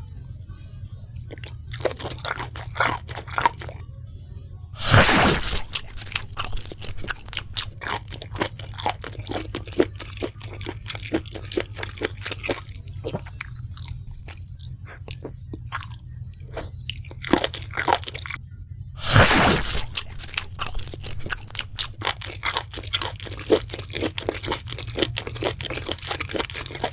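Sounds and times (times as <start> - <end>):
chewing crispy fried food: 0.0 - 18.4, 19.0 - 26.9.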